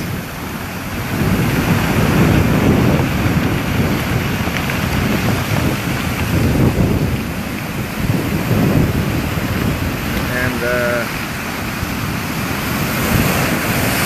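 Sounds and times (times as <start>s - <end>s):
storm surf crashing: 0.0s - 14.0s
wind buffeting microphone: 0.0s - 14.0s.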